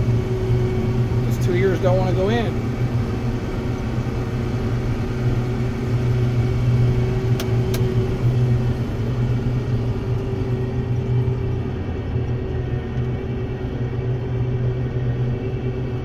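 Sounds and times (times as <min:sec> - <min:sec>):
heavy vehicle engine running: 0:00.0 - 0:16.0.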